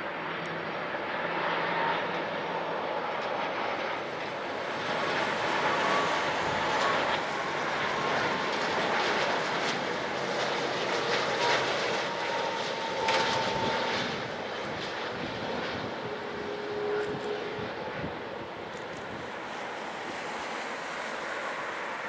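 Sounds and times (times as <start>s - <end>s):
jet engine rumble: 0.0s - 22.0s
faint high whine: 0.3s - 22.0s.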